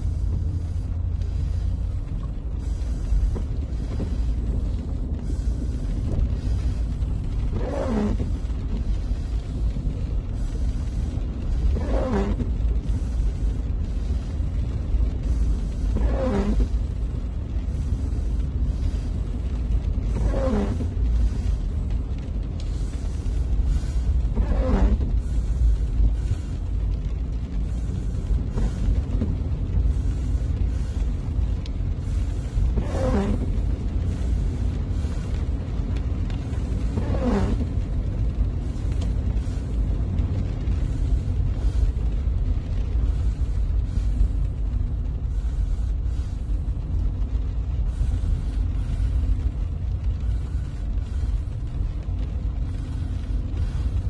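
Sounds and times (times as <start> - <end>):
car interior rumble in rain: 0.0 - 54.0.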